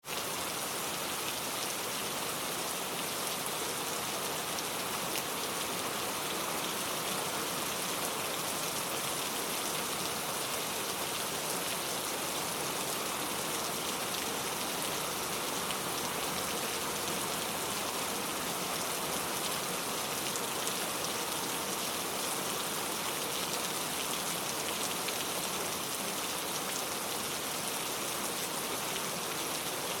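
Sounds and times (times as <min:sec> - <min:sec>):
steady rain patter: 0:00.0 - 0:30.0.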